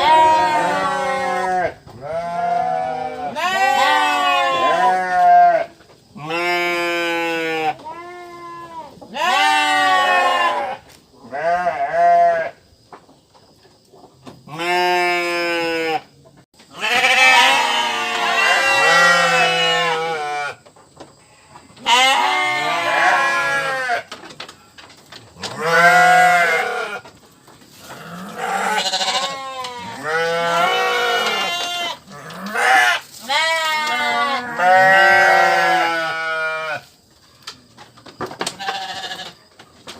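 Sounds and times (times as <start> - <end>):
sheep and goats bleating: 0.0 - 12.6, 14.5 - 16.1, 16.7 - 20.6, 21.2 - 24.2, 25.4 - 27.1, 27.8 - 36.9, 38.6 - 39.4.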